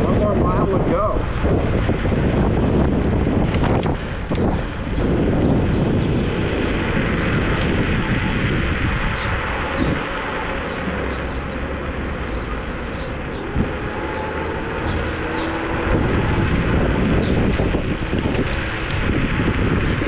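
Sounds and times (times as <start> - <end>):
wind and tyre noise: 0.0 - 20.0.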